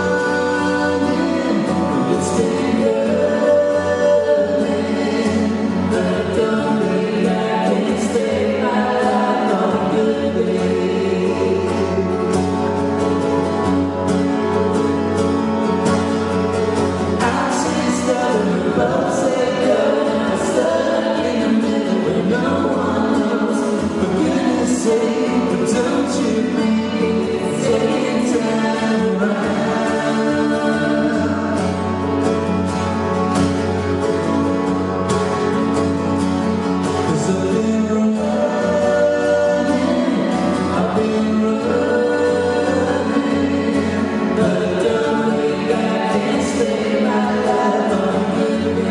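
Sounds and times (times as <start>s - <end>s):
person singing: 0.0s - 12.6s, 17.2s - 32.1s, 36.9s - 48.9s
live band playing: 0.0s - 48.9s.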